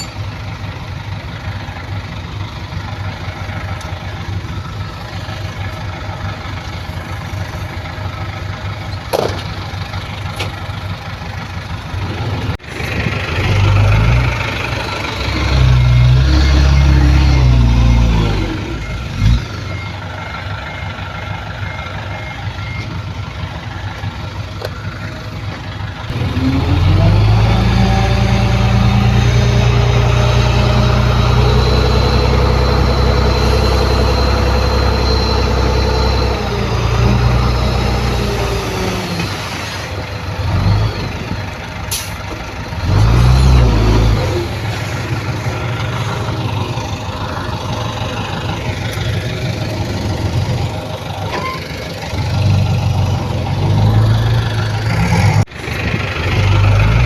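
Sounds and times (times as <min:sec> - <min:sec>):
heavy diesel engine revving: 0:00.0 - 0:57.0.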